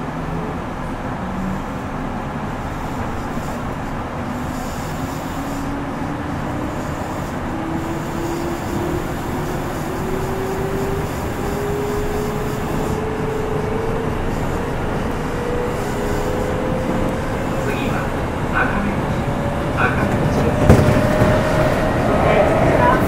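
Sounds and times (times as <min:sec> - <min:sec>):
rumble of wheels on rail: 0:00.0 - 0:23.0.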